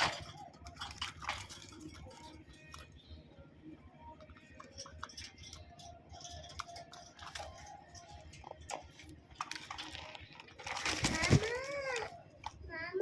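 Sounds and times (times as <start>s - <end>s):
birds pecking at seed: 0.0s - 12.7s.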